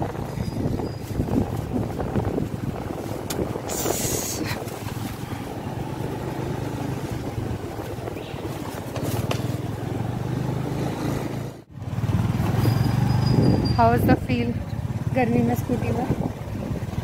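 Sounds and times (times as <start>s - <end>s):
road noise: 0.0s - 17.0s
scooter engine running: 0.0s - 17.0s.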